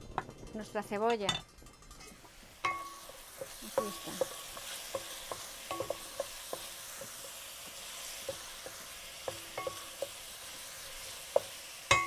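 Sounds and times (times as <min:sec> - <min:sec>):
onion sizzling in a pan: 0:00.0 - 0:12.0
spatula tapping pan: 0:01.0 - 0:12.0.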